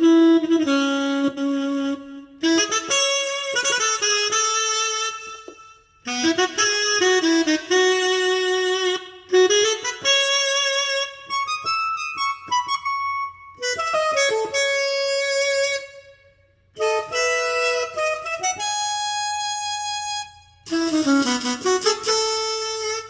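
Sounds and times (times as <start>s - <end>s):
keyboard saxophone-like melody: 0.0s - 23.0s.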